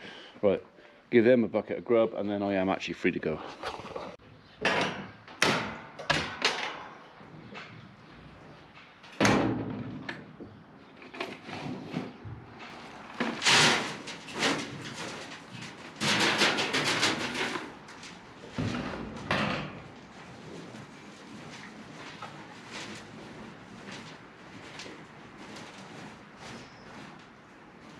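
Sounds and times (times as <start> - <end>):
knocks and rattling scrapes: 3.5 - 27.9.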